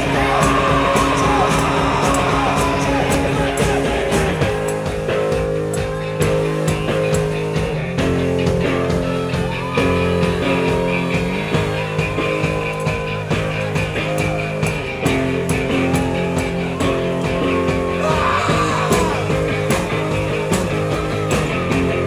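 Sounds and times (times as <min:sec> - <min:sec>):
drum beat: 0:00.0 - 0:22.0
electric guitars: 0:00.0 - 0:22.0
rock band playing: 0:00.0 - 0:22.0.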